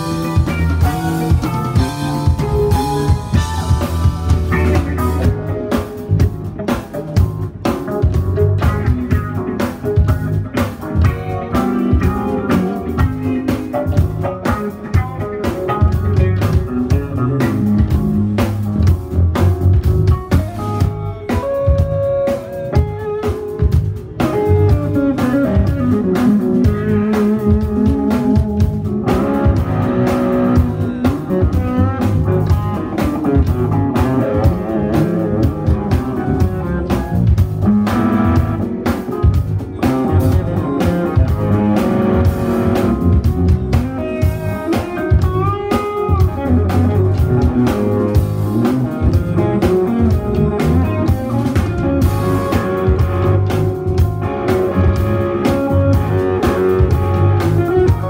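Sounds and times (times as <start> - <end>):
drum kit: 0.0 - 58.0
electric bass: 0.0 - 58.0
electric guitar lead lines: 0.0 - 58.0.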